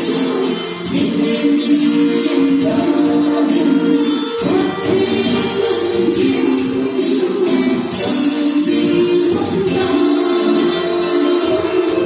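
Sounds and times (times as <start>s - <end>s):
guitar accompaniment: 0.0s - 12.0s.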